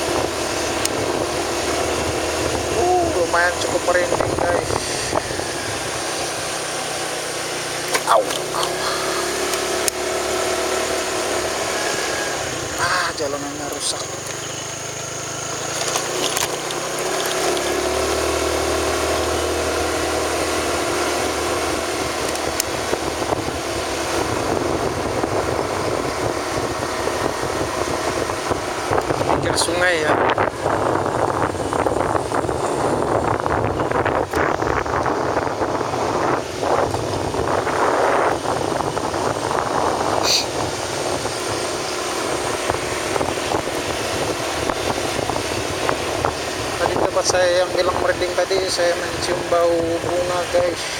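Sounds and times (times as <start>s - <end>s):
road and wind noise: 0.0s - 50.9s
vehicle engine running: 0.0s - 50.9s.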